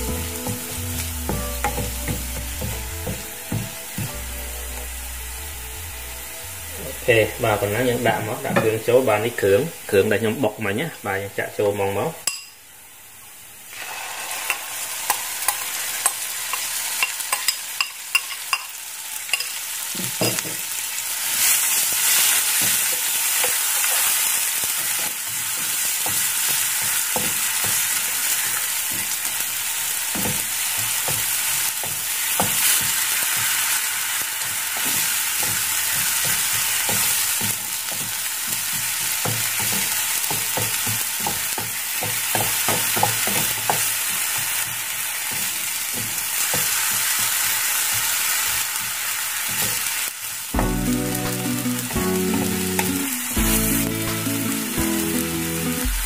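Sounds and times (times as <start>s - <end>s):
paste sizzling in oil: 0.0s - 10.4s, 12.2s - 56.0s.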